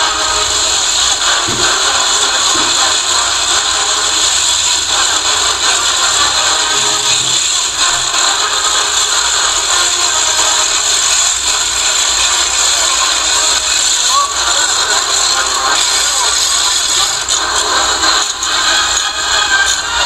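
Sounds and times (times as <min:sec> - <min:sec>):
ratchet noisemakers rattling: 0:00.0 - 0:20.0.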